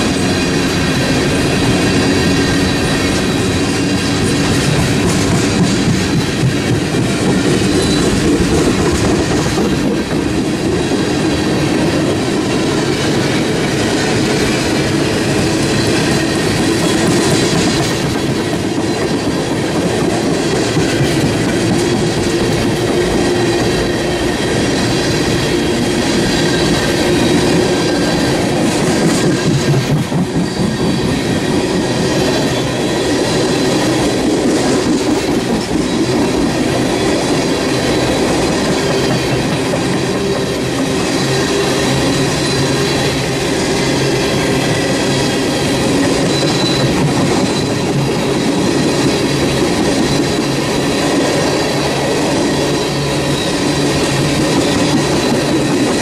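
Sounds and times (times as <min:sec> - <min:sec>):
train wheels clacking on rails: 0:00.0 - 0:56.0.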